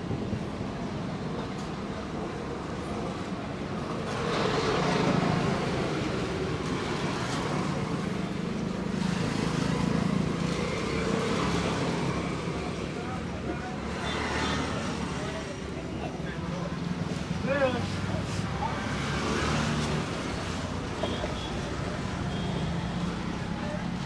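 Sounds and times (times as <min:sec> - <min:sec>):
street traffic passing: 0:00.0 - 0:24.0.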